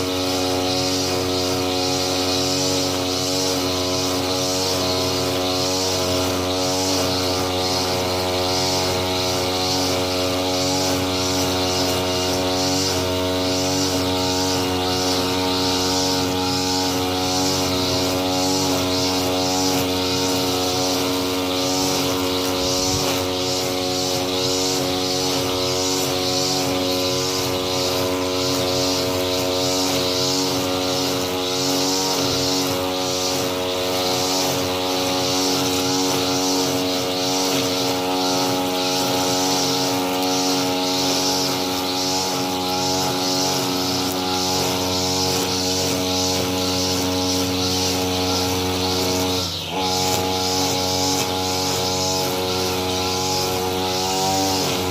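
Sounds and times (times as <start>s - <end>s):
lawn mower running: 0.0s - 54.9s.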